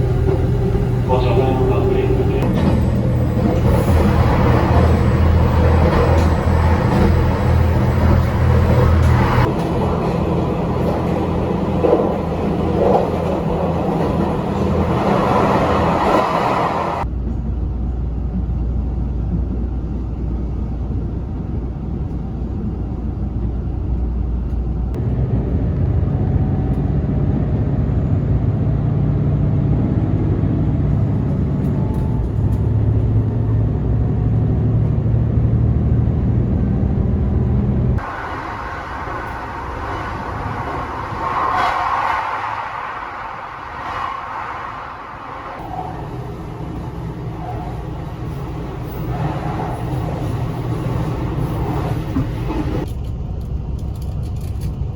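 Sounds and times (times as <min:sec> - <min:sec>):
moving vehicle rumble: 0:00.0 - 0:54.9.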